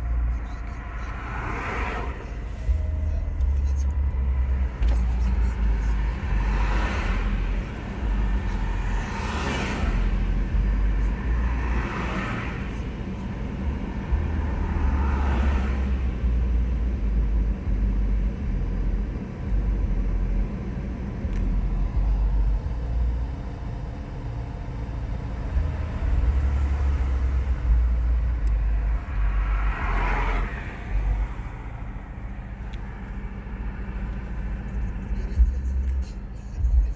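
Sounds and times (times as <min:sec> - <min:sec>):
diesel engine idling roughly: 0:00.0 - 0:36.9.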